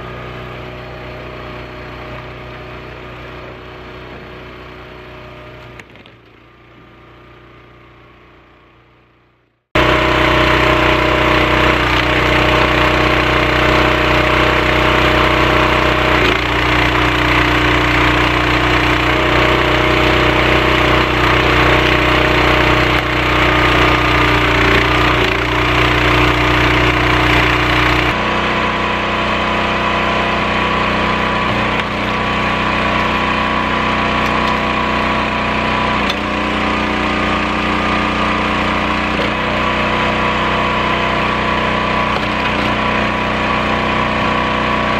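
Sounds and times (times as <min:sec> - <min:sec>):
small gas engine running: 0:00.0 - 0:09.2, 0:09.8 - 0:44.9.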